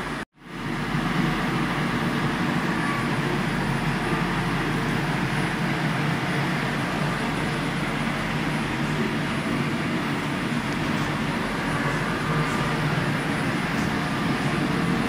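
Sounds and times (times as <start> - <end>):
machinery rumble and hiss: 0.0 - 15.0.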